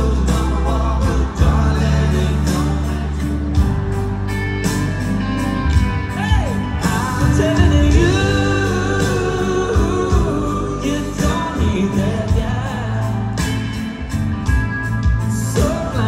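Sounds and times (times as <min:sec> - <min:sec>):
bass: 0:00.0 - 0:16.0
drums: 0:00.0 - 0:16.0
live country-rock band: 0:00.0 - 0:16.0.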